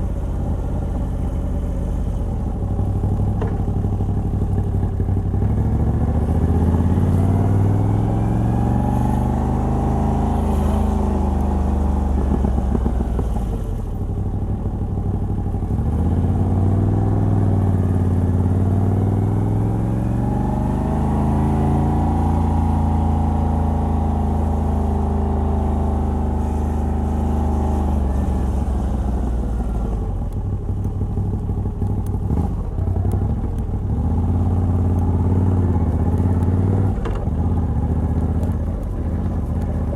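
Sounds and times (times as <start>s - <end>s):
motorcycle engine on the road: 0.0s - 39.9s.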